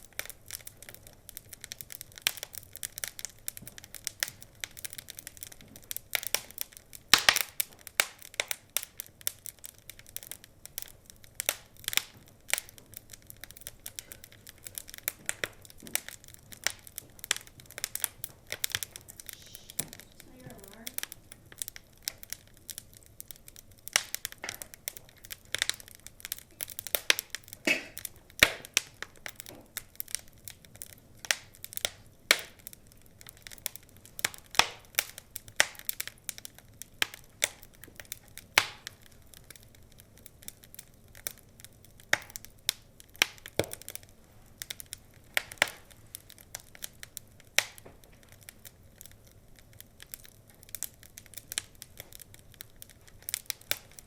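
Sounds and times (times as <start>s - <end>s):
low hiss: 0.0s - 54.0s
wood fire crackling: 0.0s - 54.0s.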